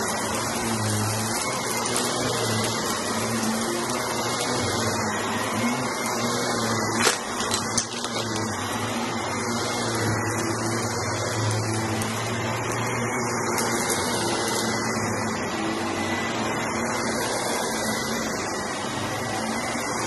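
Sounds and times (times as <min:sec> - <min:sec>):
brushroll crunching through rug: 0:00.0 - 0:20.0
stick vacuum running: 0:00.0 - 0:20.0.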